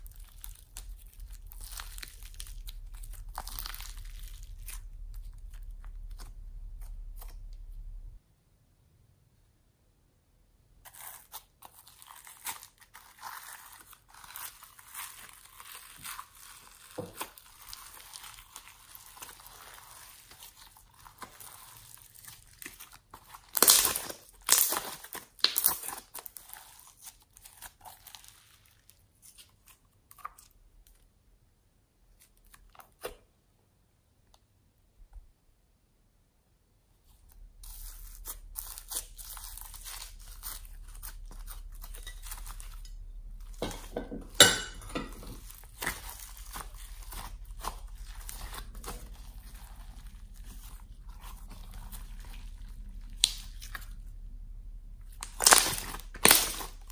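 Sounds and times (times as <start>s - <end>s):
slime squishing and squelching: 0.0s - 8.2s, 10.8s - 31.1s, 37.0s - 56.9s
faint steady low hum: 0.0s - 25.4s, 33.2s - 56.9s.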